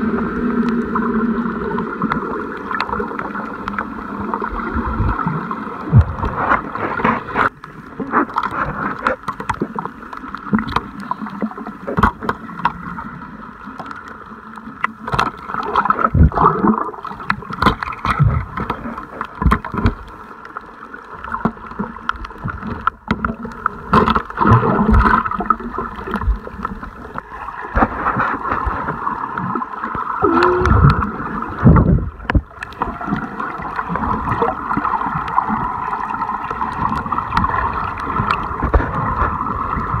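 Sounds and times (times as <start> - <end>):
muffled water sloshing: 0.0 - 40.0.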